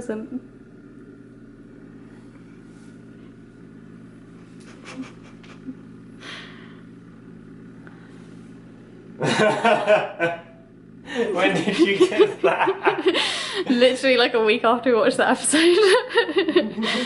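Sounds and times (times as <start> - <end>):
low motor-like hum: 0.0 - 17.0.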